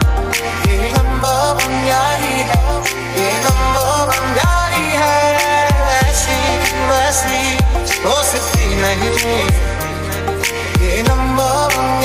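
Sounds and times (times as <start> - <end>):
song with deep bass drum: 0.0 - 12.0.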